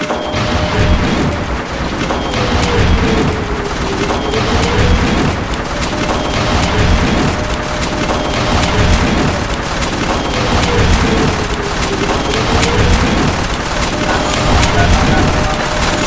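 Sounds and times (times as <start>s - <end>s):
explosion booms: 0.0s - 16.0s
rapid gunfire: 0.0s - 16.0s.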